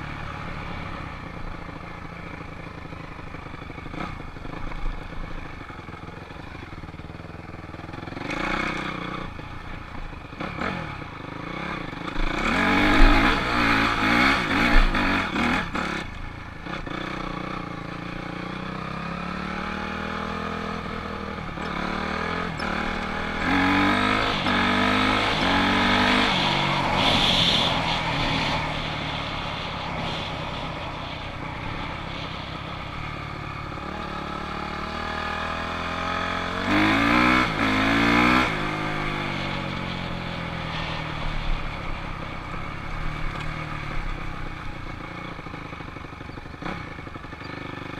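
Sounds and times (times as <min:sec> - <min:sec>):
dirt bike engine revving: 0:07.7 - 0:47.9.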